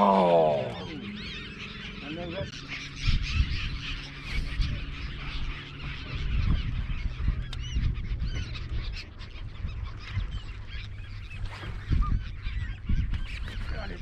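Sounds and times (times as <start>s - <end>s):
gulls calling: 0.0s - 14.0s
low hum and rumble: 0.0s - 14.0s.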